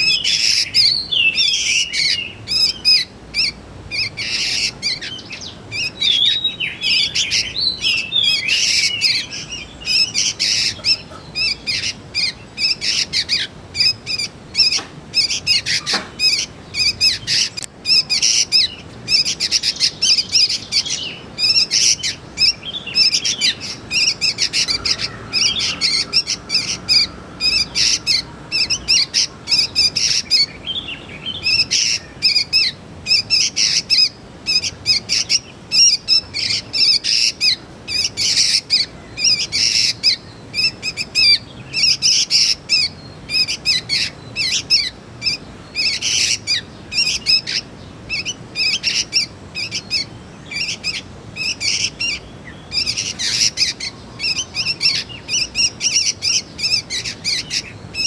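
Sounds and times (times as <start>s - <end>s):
birds chirping harshly: 0.0s - 58.0s.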